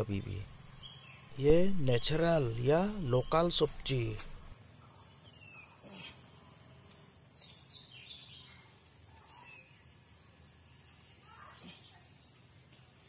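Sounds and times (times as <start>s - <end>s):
faint bird chirps: 0.0s - 12.4s
high-pitched insect chorus: 0.0s - 13.0s.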